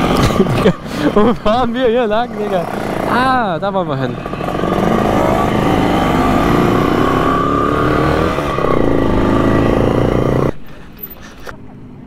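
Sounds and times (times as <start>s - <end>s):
moped engine running hard: 0.0s - 10.8s.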